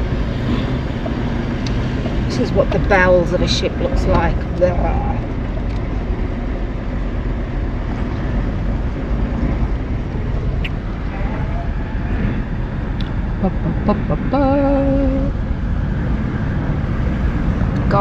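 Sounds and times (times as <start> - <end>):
vehicle engine rumble from inside: 0.0 - 18.0.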